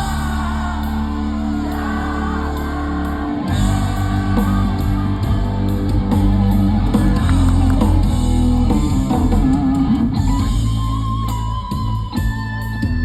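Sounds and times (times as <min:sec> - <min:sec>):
guitar band music: 0:00.0 - 0:13.0.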